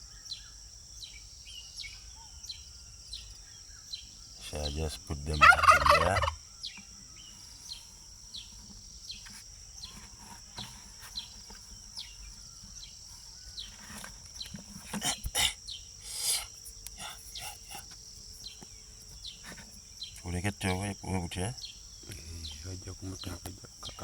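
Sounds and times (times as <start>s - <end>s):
chorus of crickets and insects: 0.0s - 24.0s.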